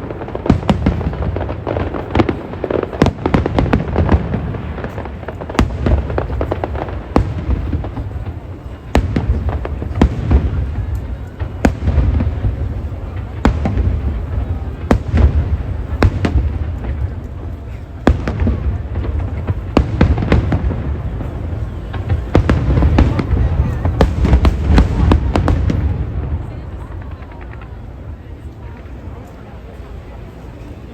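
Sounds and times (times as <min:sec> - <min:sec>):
fireworks booming: 0:00.0 - 0:30.2
fireworks cracking and popping: 0:00.0 - 0:30.8.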